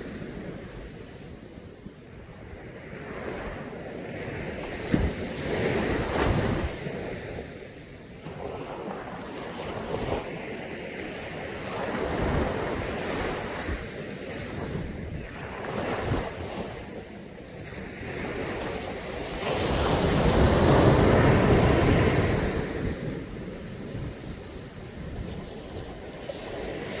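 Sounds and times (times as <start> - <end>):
waves washing onto beach: 0.0 - 27.0.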